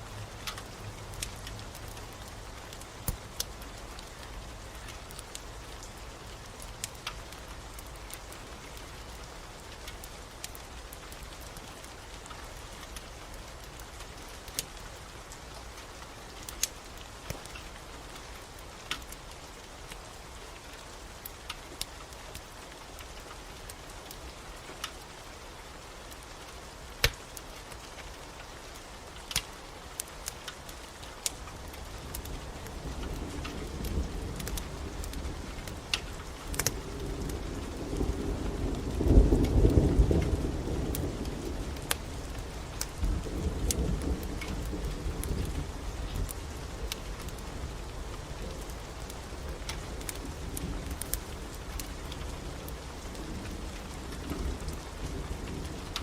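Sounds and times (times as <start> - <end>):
wood fire crackling and popping: 0.0 - 25.1, 26.1 - 56.0
steady rain: 0.0 - 56.0.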